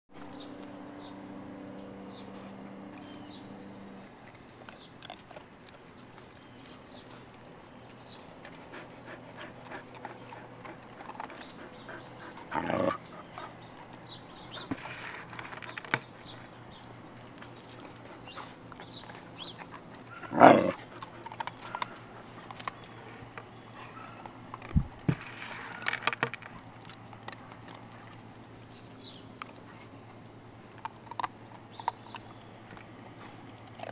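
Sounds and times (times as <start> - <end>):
insects trilling: 0.1 - 33.9
puppies and wire fence noises: 0.2 - 33.9.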